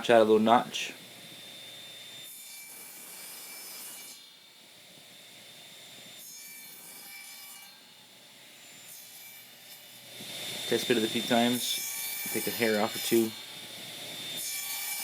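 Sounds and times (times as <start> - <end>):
saw cutting wood: 0.0 - 15.0.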